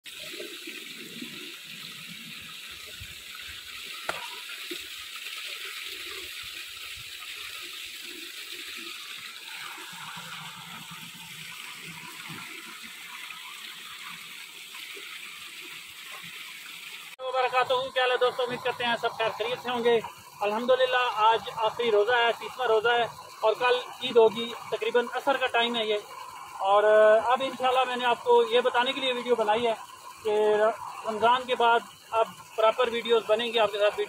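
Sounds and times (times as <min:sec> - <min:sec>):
water gushing and splashing: 0:00.0 - 0:34.0.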